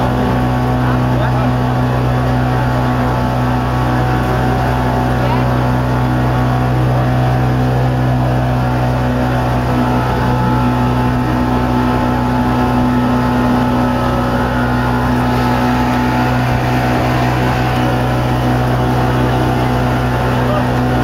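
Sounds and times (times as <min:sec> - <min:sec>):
motor boat engine droning: 0:00.0 - 0:21.0
water rushing along hull: 0:00.0 - 0:21.0.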